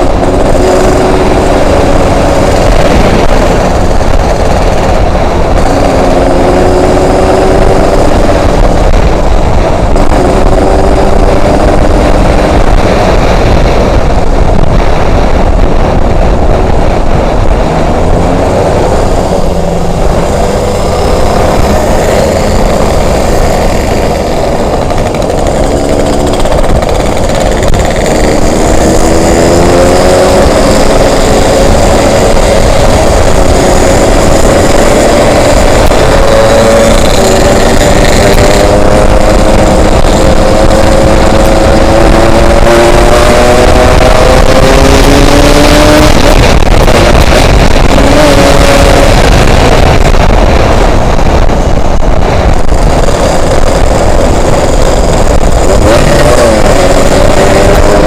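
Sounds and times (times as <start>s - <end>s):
two-stroke motorcycle engine accelerating: 0.0s - 58.0s
wind buffeting microphone: 0.0s - 58.0s.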